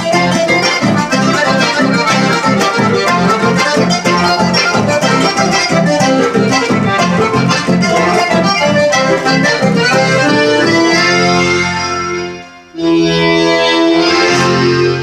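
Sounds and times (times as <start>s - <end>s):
accordion folk music: 0.0s - 15.0s.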